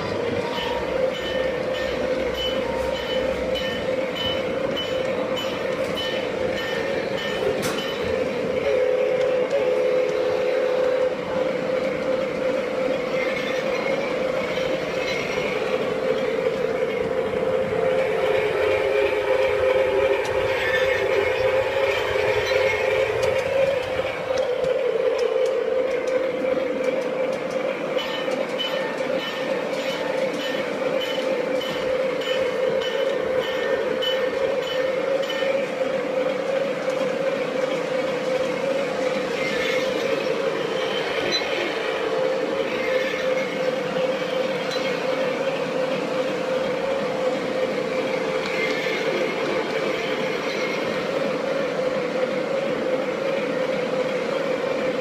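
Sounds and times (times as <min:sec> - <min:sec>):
model locomotive mechanical hum: 0:00.0 - 0:55.0
wheels rattling on rails: 0:00.0 - 0:55.0.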